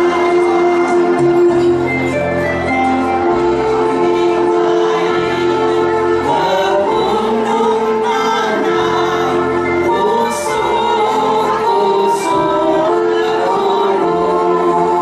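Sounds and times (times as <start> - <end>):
group singing into microphones: 0.0 - 1.7, 3.2 - 15.0
instrumental accompaniment: 0.0 - 15.0
steady bass line: 0.0 - 15.0.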